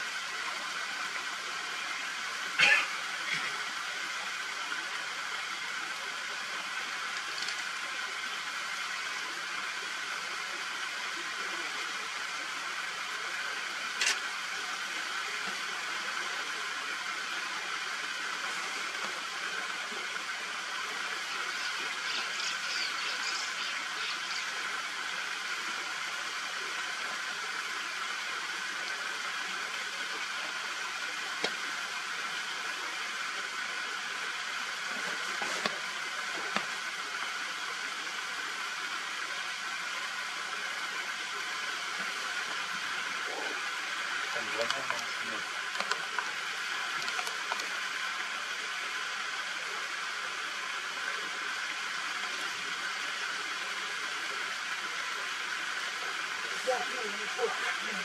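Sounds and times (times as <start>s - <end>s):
hissing outdoor background noise: 0.0s - 58.0s.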